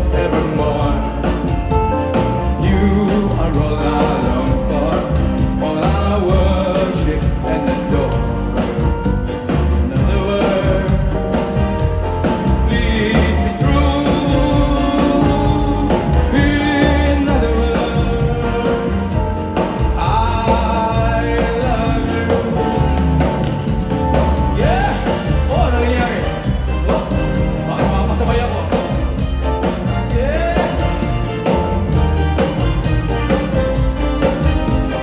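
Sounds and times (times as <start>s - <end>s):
lead singer singing: 0.0s - 29.0s, 29.8s - 31.6s
live pop band playing: 0.0s - 35.0s
pulsing bass beat: 0.0s - 35.0s.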